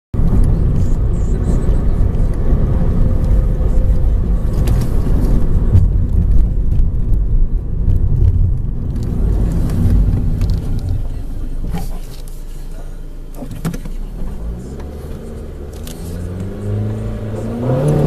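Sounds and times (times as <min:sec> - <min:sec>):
road and tyre noise: 0:00.1 - 0:18.0
car engine accelerating hard: 0:00.2 - 0:18.0.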